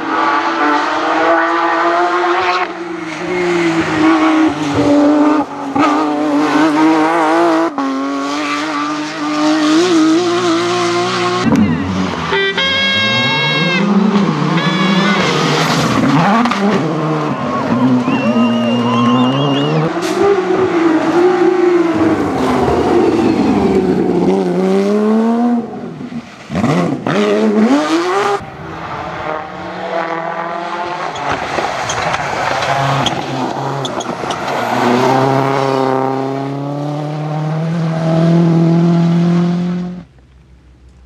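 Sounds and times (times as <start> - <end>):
rally car engines revving past: 0.0 - 40.1.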